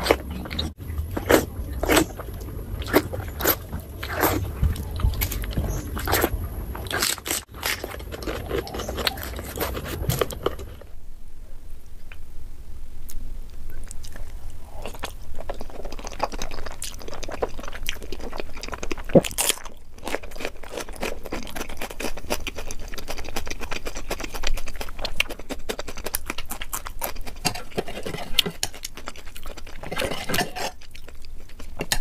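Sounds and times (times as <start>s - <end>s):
chewing mouth sounds: 0.0s - 10.9s, 13.1s - 32.0s.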